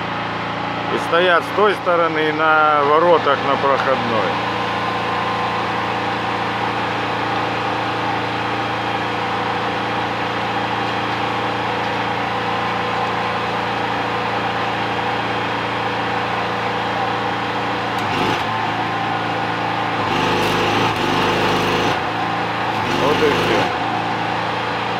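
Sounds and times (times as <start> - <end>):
rough fuller engine noise: 0.0 - 24.9
small engine running steadily: 0.0 - 24.9.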